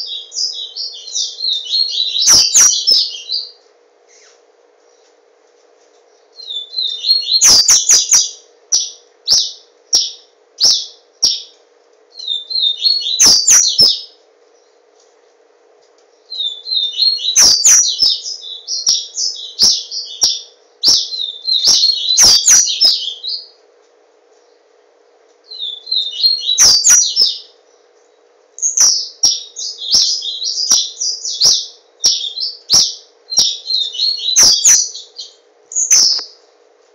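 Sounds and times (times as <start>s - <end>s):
bird twittering song: 0.0s - 5.1s, 6.1s - 14.8s, 16.1s - 23.6s, 25.4s - 36.4s
faint steady hum: 0.0s - 36.9s.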